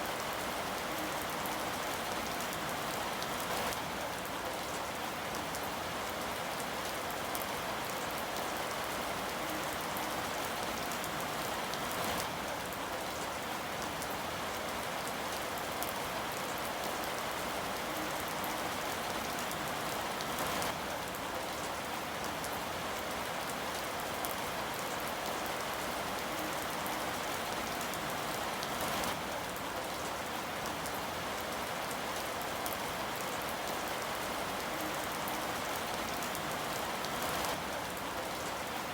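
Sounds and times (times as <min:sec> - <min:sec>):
rain falling: 0:00.0 - 0:38.9
rain spatters: 0:00.0 - 0:38.9.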